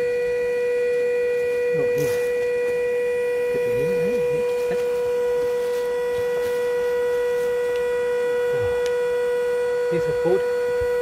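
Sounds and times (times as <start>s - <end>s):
air compressor whining: 0.0s - 11.0s.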